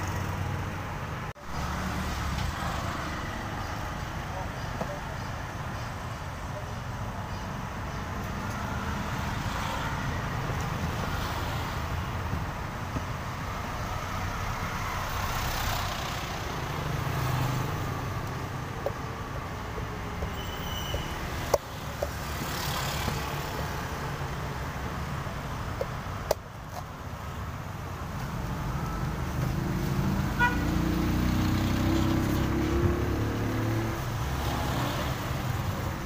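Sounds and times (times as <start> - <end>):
road traffic rumble: 0.0 - 36.0.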